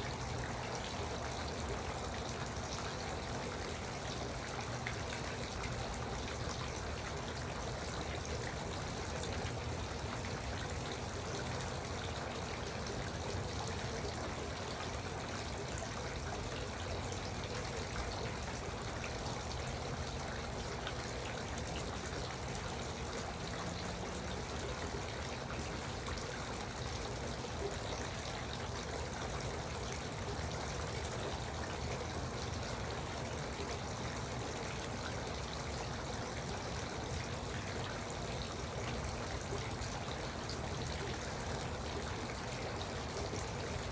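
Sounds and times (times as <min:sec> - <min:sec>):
fountain water trickling and splashing: 0:00.0 - 0:43.9.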